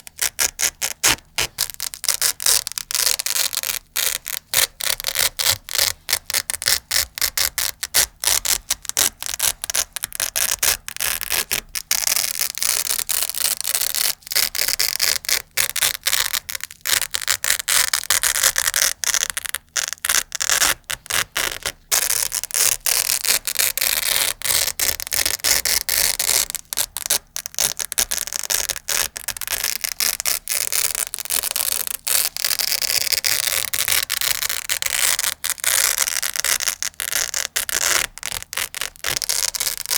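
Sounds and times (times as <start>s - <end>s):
velcro strips tearing: 0.0s - 39.9s.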